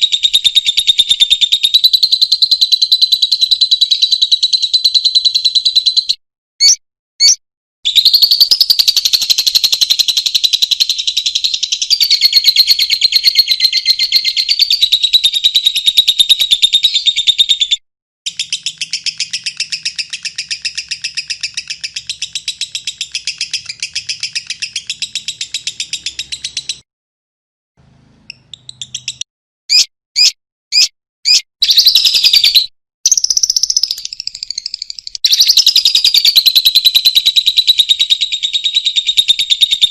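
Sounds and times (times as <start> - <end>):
bird chattering in rapid trills: 0.0 - 26.8, 28.3 - 39.9
bird chirps: 0.0 - 26.9, 28.2 - 39.9.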